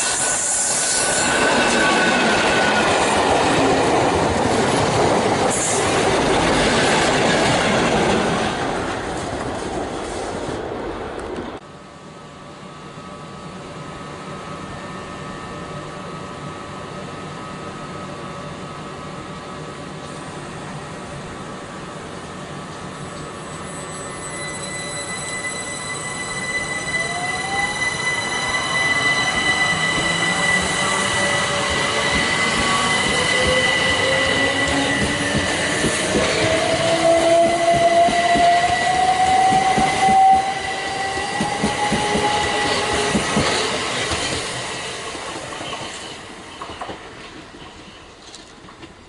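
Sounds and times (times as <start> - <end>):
rail noise: 0.0 - 49.0.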